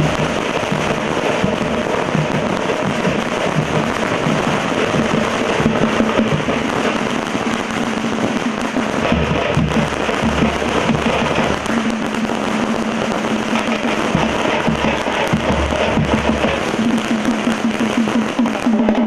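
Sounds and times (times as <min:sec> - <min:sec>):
drum band drumming: 0:00.0 - 0:19.0.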